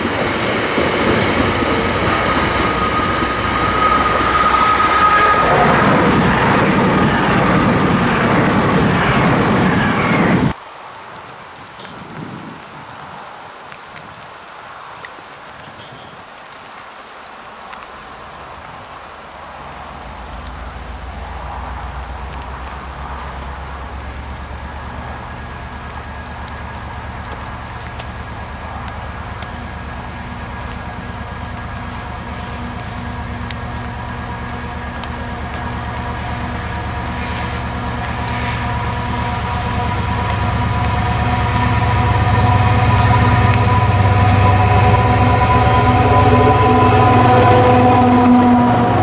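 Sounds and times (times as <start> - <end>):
diesel locomotive rumble: 0.0 - 10.6, 20.1 - 49.0
steady rain: 0.0 - 49.0.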